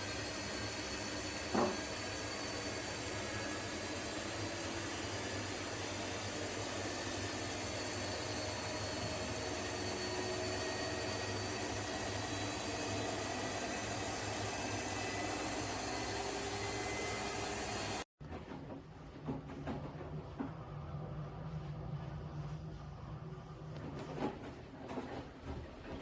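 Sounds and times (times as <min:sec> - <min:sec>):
washing machine running: 0:00.0 - 0:26.0.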